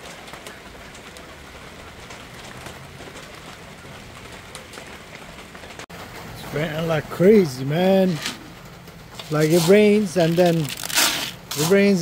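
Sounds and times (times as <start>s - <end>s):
raindrop taps: 0.0s - 7.8s, 8.4s - 12.0s
heavy rain hissing: 0.0s - 12.0s.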